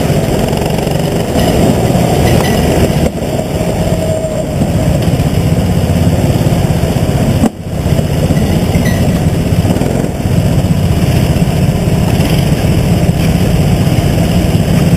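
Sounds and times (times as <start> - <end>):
go-kart engine running: 0.0 - 14.9
other go-kart engines: 0.0 - 14.9.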